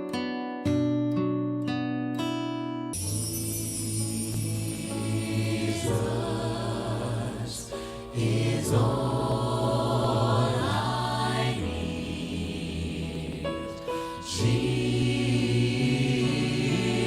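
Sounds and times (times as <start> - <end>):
gospel choir singing in harmony: 3.0 - 17.0.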